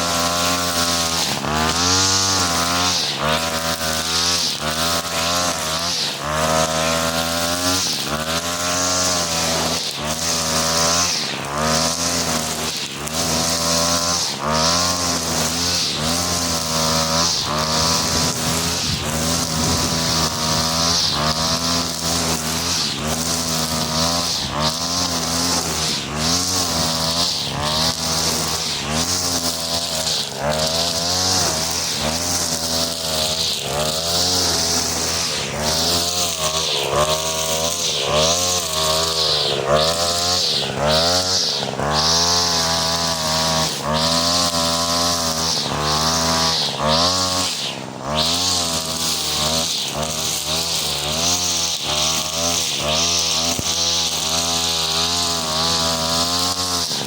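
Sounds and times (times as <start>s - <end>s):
brush cutter engine revving: 0.0s - 57.0s
whirling trimmer line hiss: 0.0s - 57.0s.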